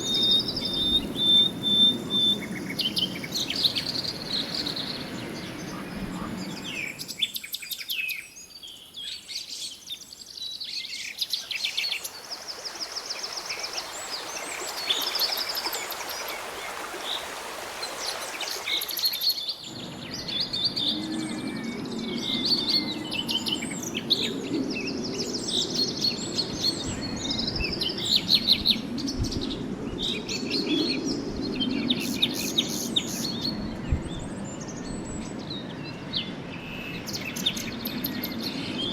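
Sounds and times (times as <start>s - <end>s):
birds chirping and singing: 0.0s - 12.1s, 18.2s - 38.9s.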